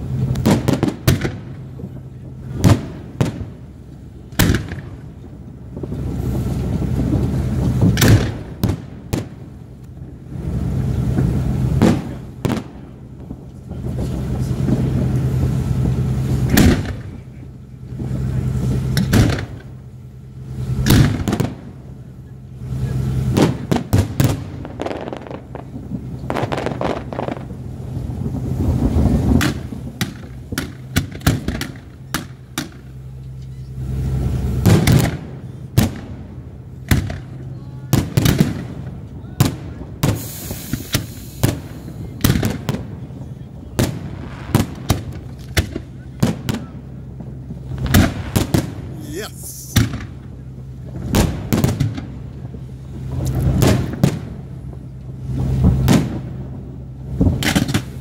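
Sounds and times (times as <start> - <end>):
fireworks bursting: 0.0 - 19.8, 20.6 - 21.9, 22.9 - 33.0, 34.6 - 58.0
fireworks rumble and crackle: 0.0 - 58.0.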